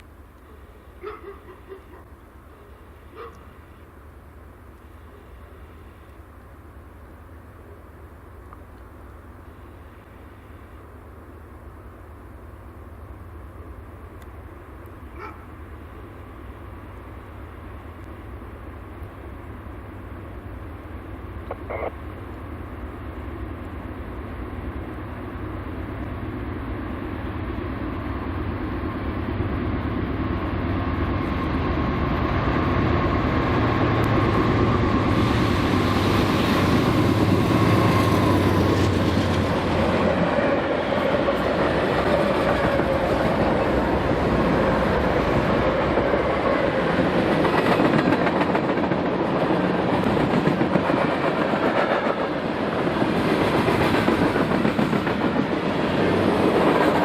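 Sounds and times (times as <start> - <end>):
diesel locomotives passing: 0.0 - 57.0.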